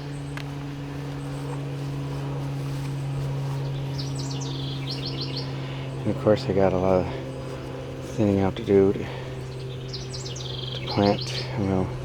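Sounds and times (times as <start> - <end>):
songbird singing: 0.0 - 12.0
steady low hum: 0.0 - 12.0.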